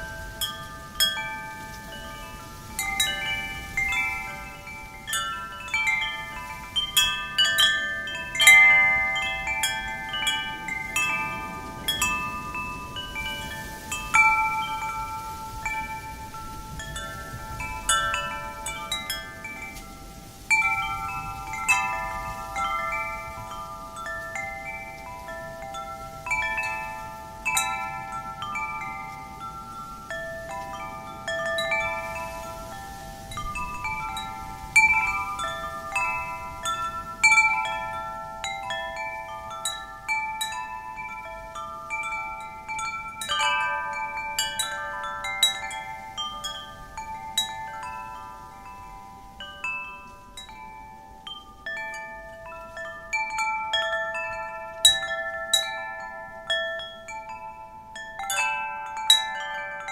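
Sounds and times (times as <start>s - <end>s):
faint wind: 0.0s - 59.9s
wind chimes ringing: 0.0s - 59.9s.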